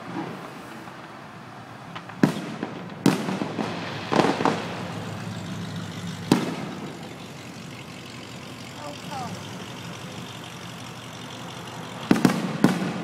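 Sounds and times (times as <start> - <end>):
distant fireworks bursting: 0.0 - 13.0.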